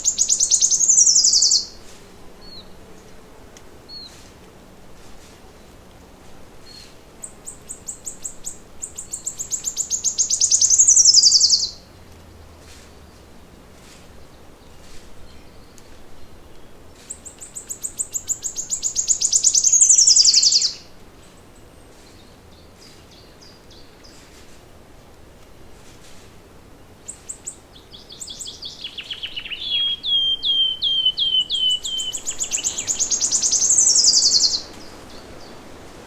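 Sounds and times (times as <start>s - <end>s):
songbird singing: 0.0s - 3.2s, 6.6s - 13.3s, 14.1s - 24.4s, 26.7s - 36.0s.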